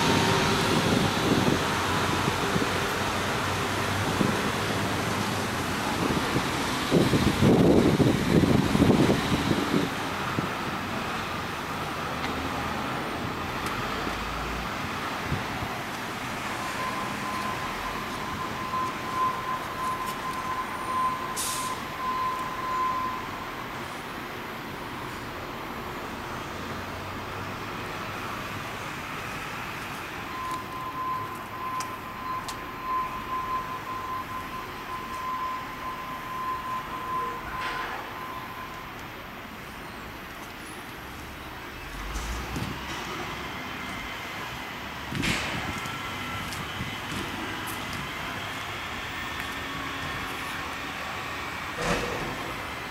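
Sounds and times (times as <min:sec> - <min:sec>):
road traffic hum: 0:00.0 - 0:52.9.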